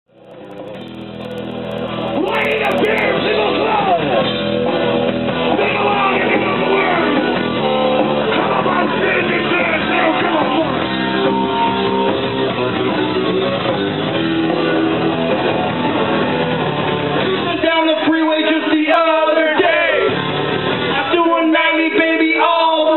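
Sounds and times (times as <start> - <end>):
live punk rock band: 1.4 - 22.9.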